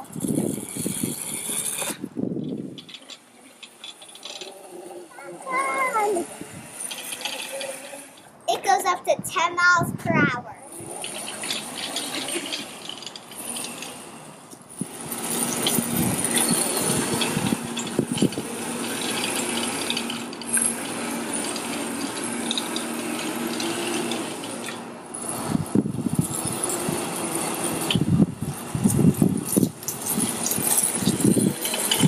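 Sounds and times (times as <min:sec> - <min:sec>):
clicking and rattling: 0:00.0 - 0:05.2, 0:11.0 - 0:32.0
electric motor hum: 0:00.0 - 0:08.4, 0:10.7 - 0:32.0.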